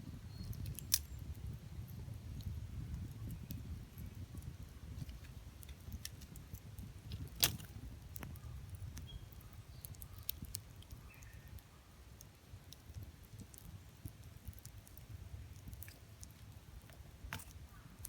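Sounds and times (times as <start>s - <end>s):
burning firewood popping: 0.1s - 18.0s
campfire crackling: 0.1s - 18.0s.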